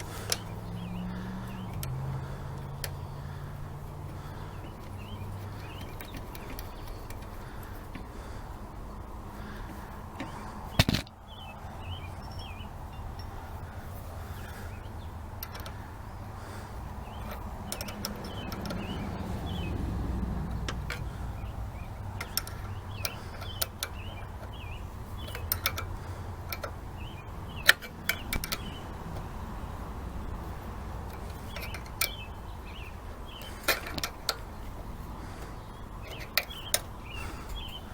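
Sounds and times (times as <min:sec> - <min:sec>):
clicks and knocks of tools: 0:00.0 - 0:08.4, 0:09.4 - 0:11.2, 0:15.3 - 0:29.6, 0:30.3 - 0:37.9.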